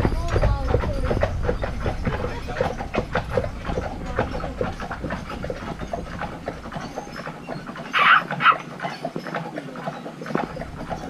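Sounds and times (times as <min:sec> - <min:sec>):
horse hooves clopping on pavement: 0:00.0 - 0:11.0.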